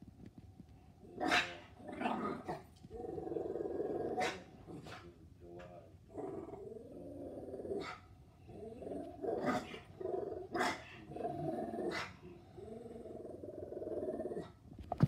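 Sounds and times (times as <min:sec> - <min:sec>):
dog growling: 0:01.1 - 0:05.1, 0:06.1 - 0:14.6.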